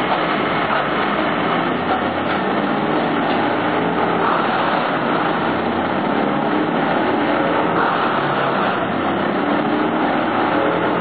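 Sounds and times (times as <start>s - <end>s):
wood chipper chipping branches: 0.0s - 11.0s.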